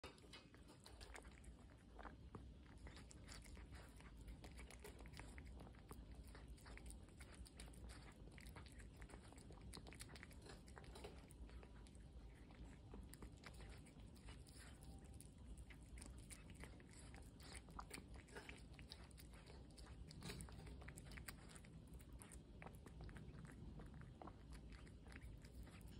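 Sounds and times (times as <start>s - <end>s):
cat chewing wet food: 0.0s - 25.9s.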